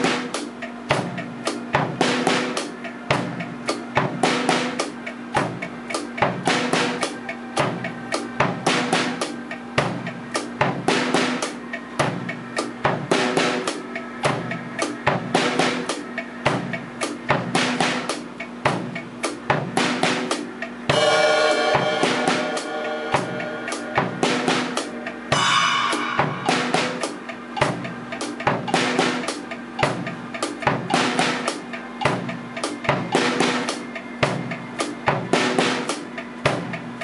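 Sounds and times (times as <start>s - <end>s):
acoustic drum kit groove: 0.0s - 37.0s.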